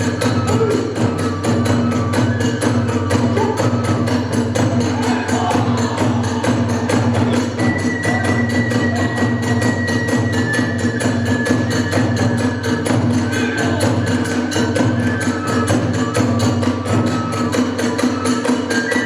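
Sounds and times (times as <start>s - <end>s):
bamboo flute long high notes: 0.0s - 19.0s
drums and hand cymbals beat: 0.0s - 19.0s.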